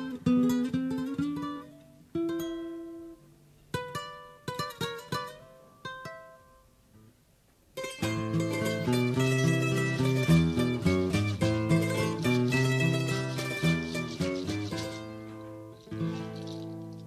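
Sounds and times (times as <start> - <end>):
plucked strings melody: 0.0 - 6.7, 7.8 - 17.0.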